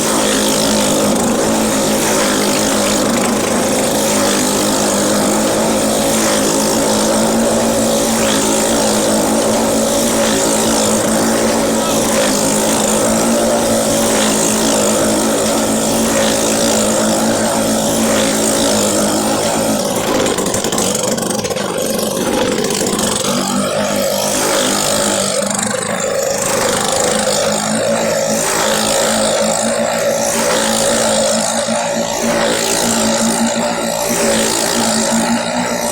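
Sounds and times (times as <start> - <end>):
motorcycle engines running: 0.0 - 35.9.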